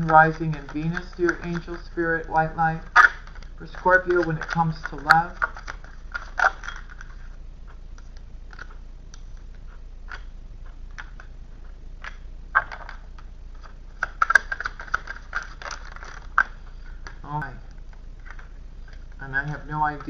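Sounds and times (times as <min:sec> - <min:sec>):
cards being shuffled: 0:00.0 - 0:20.0.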